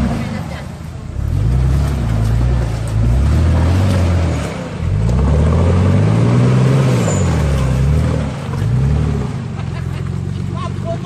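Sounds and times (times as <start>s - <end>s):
diesel engine revving: 0.0s - 11.0s
tyres through mud: 0.0s - 11.0s.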